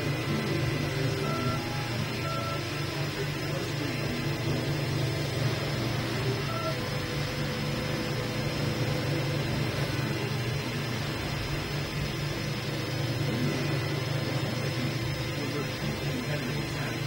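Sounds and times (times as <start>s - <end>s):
steady low hum: 0.0s - 17.0s
stepper motors whining: 0.0s - 17.0s.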